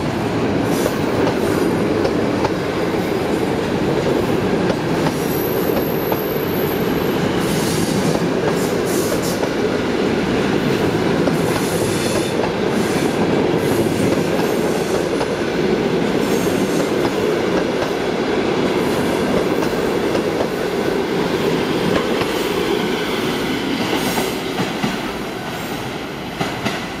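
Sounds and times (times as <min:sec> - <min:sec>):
train wheels running on rails: 0:00.0 - 0:27.0.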